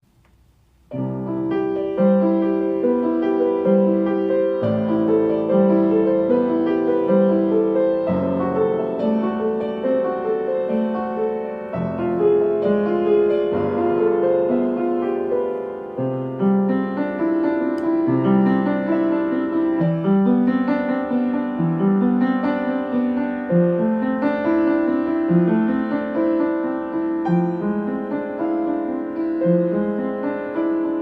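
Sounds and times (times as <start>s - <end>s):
solo piano melody: 0.0s - 31.0s.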